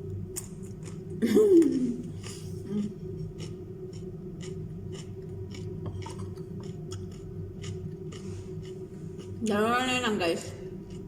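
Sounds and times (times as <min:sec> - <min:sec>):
steady low hum: 0:00.0 - 0:11.0
crunchy chewing of vegetables: 0:00.4 - 0:09.5, 0:10.5 - 0:11.0.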